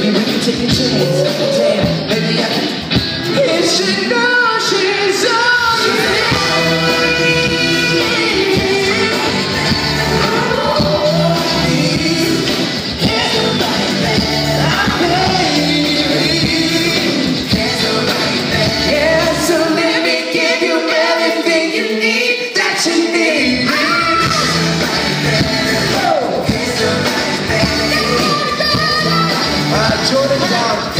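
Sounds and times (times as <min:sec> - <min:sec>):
pop song with vocals: 0:00.0 - 0:30.9.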